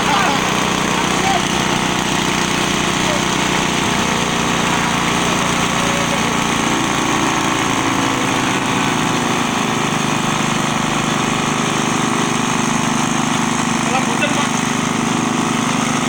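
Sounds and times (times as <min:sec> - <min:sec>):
forage chopper engine running: 0:00.0 - 0:16.0.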